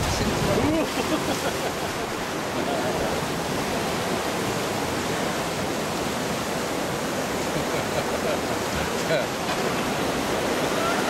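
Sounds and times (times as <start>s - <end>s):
rushing river rapids: 0.0s - 11.0s.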